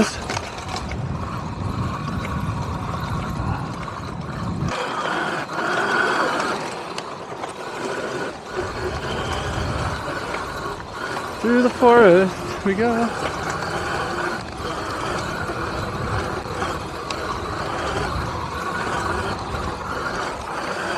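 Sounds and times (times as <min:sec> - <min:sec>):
wind and tyre noise: 0:00.0 - 0:20.9.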